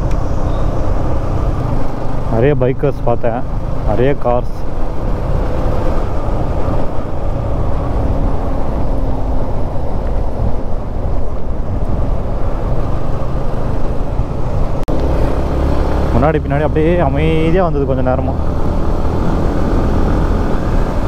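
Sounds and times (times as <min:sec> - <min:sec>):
wind rush on microphone: 0:00.0 - 0:17.5, 0:18.3 - 0:21.0.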